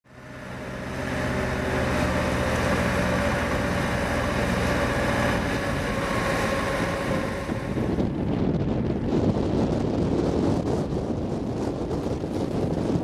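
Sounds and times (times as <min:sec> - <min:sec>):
tractor engine running: 0:00.1 - 0:12.8.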